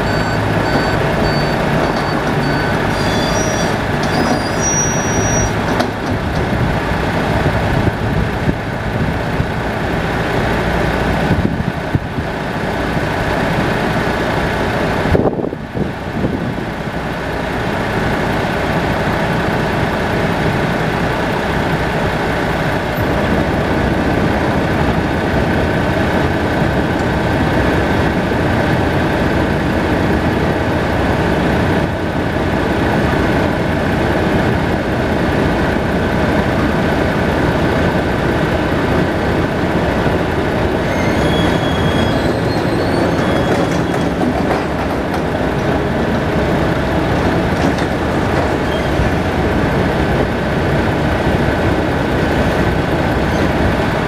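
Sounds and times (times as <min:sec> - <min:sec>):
heavy vehicle engine idling: 0:00.0 - 0:54.0.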